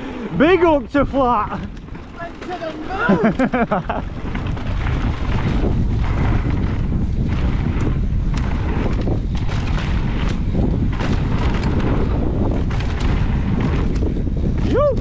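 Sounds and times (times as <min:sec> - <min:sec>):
bike clicks and knocks: 0:00.0 - 0:15.0
wind buffeting microphone: 0:00.0 - 0:15.0.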